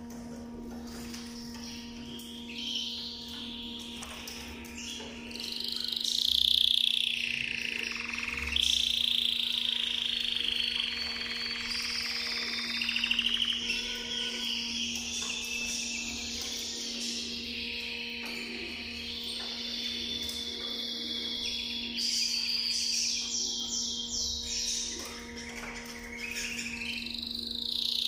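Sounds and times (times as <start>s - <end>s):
steady low hum: 0.0s - 28.0s
canary singing: 1.3s - 28.0s.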